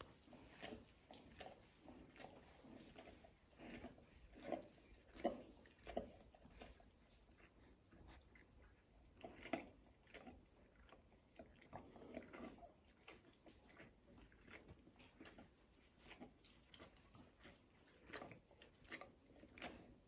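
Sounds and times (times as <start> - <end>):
dog licking: 0.0 - 20.0.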